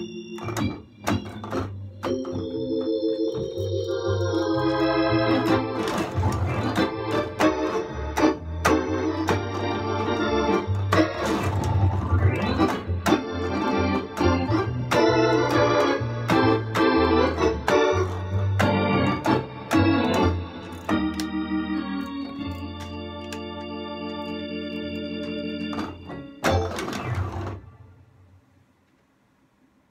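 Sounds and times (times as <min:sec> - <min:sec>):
electronic organ playing: 0:00.0 - 0:28.0.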